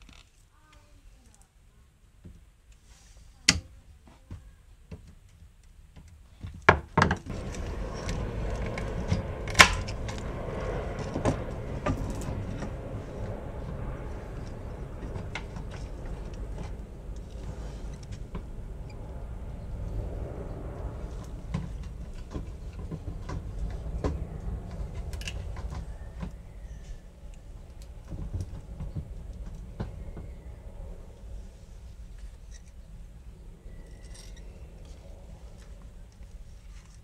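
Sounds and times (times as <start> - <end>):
low rumble: 7.2 - 37.0.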